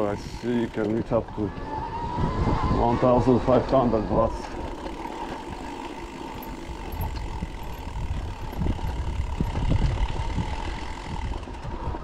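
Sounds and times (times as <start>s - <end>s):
tyres rumbling on dirt: 0.0s - 2.2s, 2.8s - 12.0s
electric motor whine: 0.0s - 12.0s
wind on microphone: 1.2s - 5.6s, 6.5s - 12.0s.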